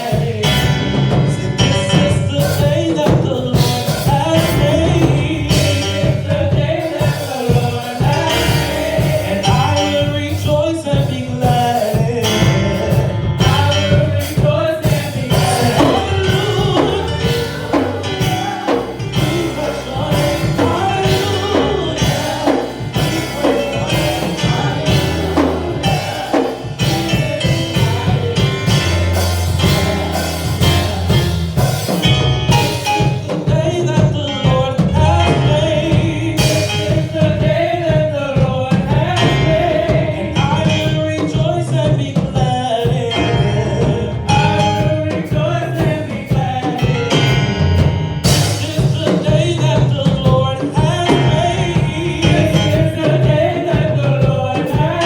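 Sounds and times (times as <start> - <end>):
band with drum kit and bass: 0.0 - 55.0
gospel singing: 0.0 - 55.0.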